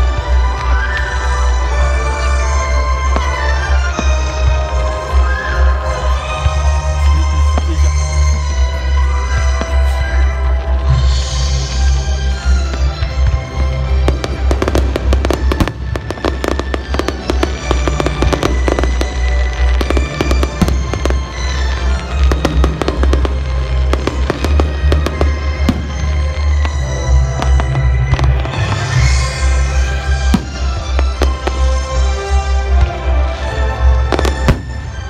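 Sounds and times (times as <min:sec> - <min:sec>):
fireworks crackling: 0:00.0 - 0:35.0
fireworks cracks and bursts: 0:00.0 - 0:35.0.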